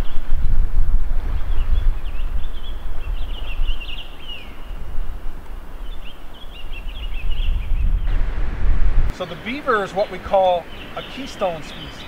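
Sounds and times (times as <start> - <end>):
small birds chirping: 0.0 - 0.4, 1.3 - 8.3, 9.1 - 12.0
wind buffeting microphone: 0.0 - 12.0.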